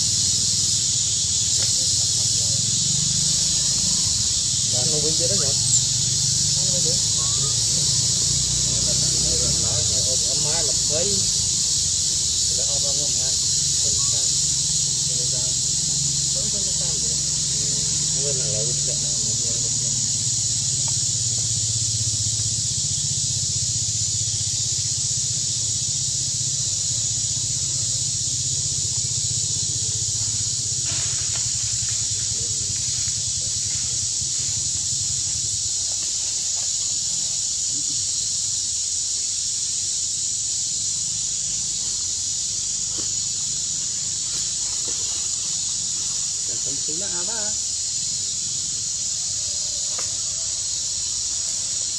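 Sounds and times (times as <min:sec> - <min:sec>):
forest insects droning: 0:00.0 - 0:51.9.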